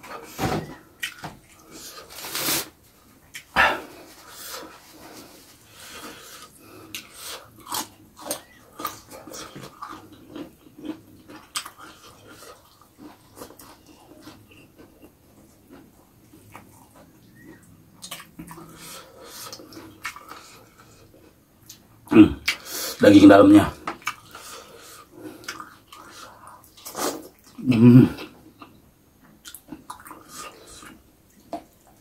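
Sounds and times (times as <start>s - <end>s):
man chewing and lip smacking: 0.0s - 2.1s, 3.0s - 4.8s, 6.0s - 22.7s, 23.8s - 32.0s.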